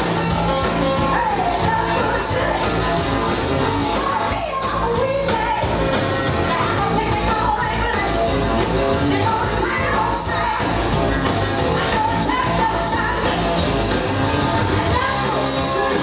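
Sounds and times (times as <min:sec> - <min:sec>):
loud amplified music with singing: 0:00.0 - 0:16.0.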